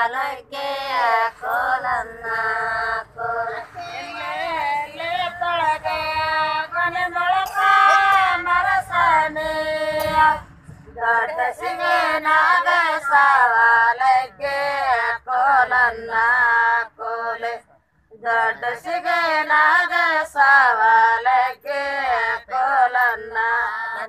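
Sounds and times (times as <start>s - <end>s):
women singing folk song: 0.0s - 24.0s.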